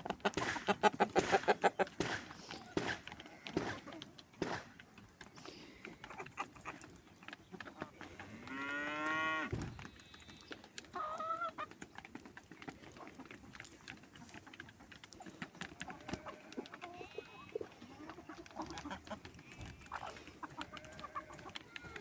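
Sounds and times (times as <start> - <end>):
farm animal calling: 0.0 - 22.0.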